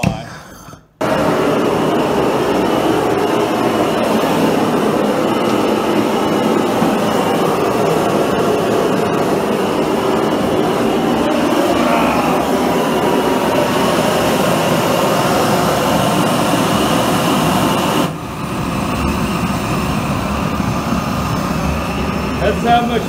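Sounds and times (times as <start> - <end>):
forge burner rushing: 0.0 - 23.0.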